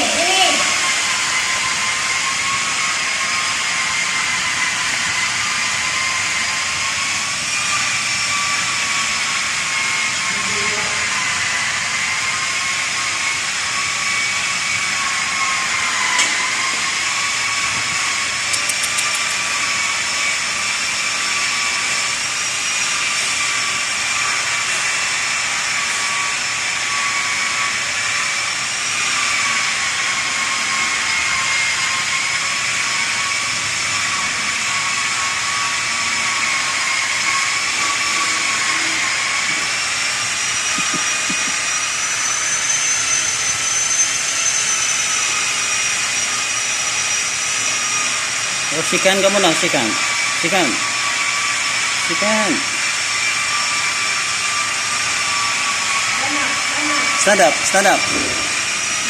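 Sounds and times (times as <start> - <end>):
small motor whining: 0.0 - 59.0.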